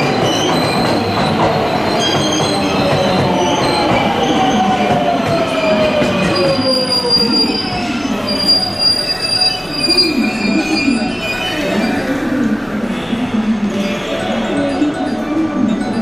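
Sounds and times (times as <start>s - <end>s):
high wheel squeal: 0.0s - 4.8s, 5.5s - 15.2s
rumble of train cars: 0.0s - 16.0s.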